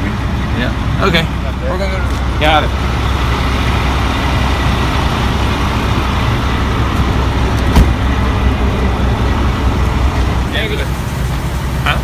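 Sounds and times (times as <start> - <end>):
vehicle road noise: 0.0 - 12.0.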